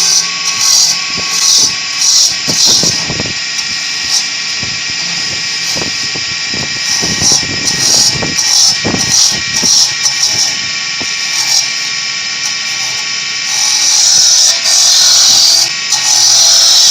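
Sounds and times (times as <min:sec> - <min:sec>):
cutting noise surges: 0:00.0 - 0:16.9
woodworking machine whine: 0:00.0 - 0:16.9.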